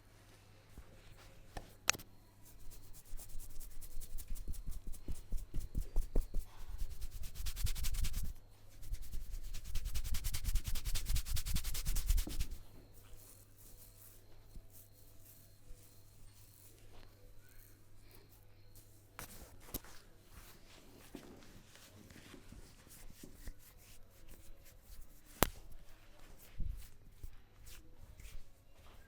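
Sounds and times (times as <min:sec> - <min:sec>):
hands rubbing hair and scalp: 0:02.4 - 0:16.8, 0:18.8 - 0:29.0.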